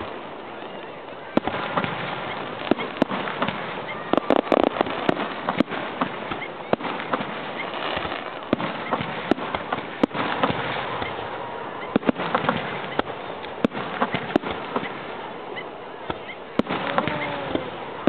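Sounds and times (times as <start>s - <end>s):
background hiss: 0.0s - 18.0s
firework bangs: 0.0s - 18.0s.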